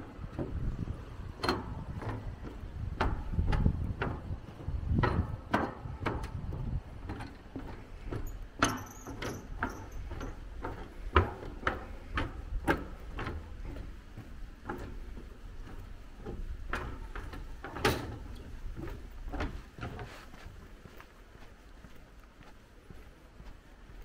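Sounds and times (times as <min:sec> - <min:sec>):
footsteps on wooden planks: 0:00.0 - 0:24.0.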